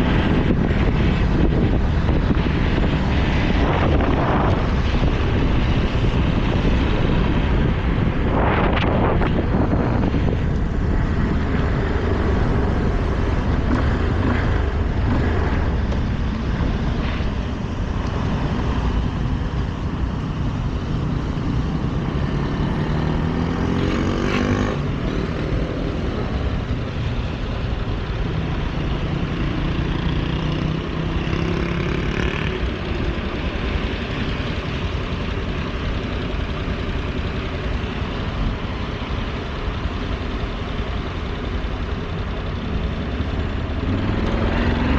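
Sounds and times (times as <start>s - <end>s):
wind rushing over microphone: 0.0s - 36.2s
motorcycle engine: 0.0s - 44.9s.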